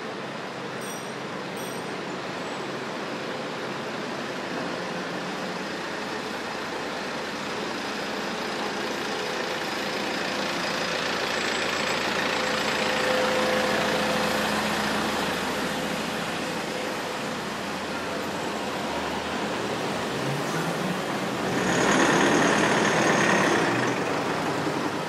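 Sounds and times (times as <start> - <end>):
large vehicle engine running: 0.0 - 25.0
street traffic: 0.0 - 25.0.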